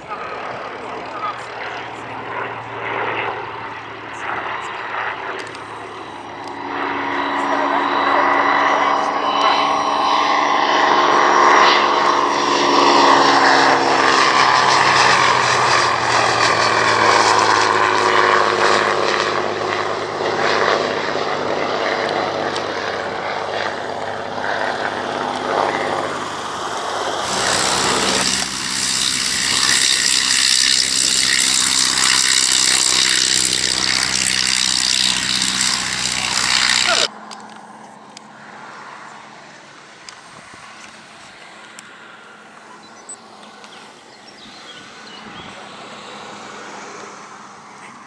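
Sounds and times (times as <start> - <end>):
propeller aircraft flying past: 0.0 - 48.0
steady engine drone with hiss: 0.0 - 48.0.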